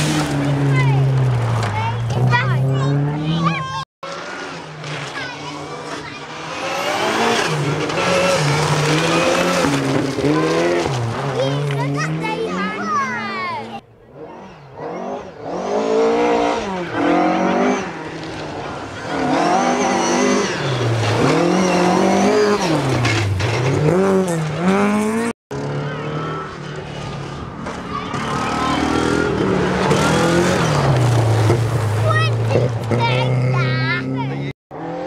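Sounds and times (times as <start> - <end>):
rally car approaching: 0.0 - 35.0
rally car engine revving: 0.0 - 35.0.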